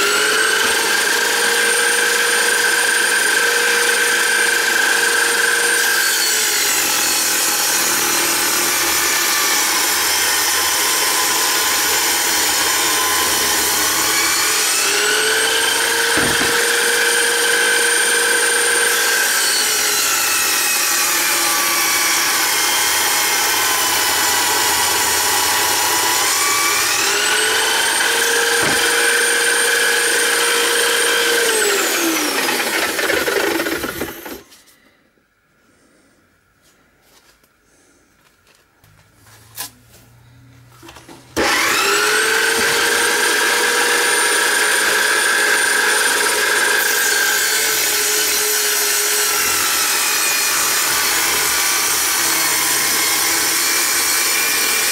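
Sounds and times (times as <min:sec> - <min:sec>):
saw blade cutting plywood: 0:00.0 - 0:34.6, 0:41.4 - 0:54.9.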